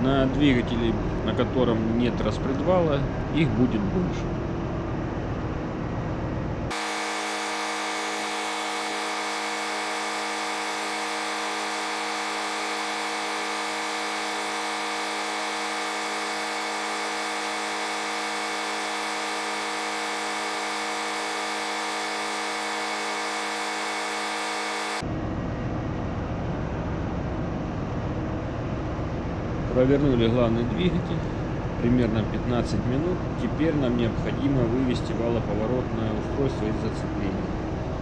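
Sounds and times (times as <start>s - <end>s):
electric motor and gearing whine: 0.0s - 38.0s
low engine room rumble: 0.0s - 38.0s.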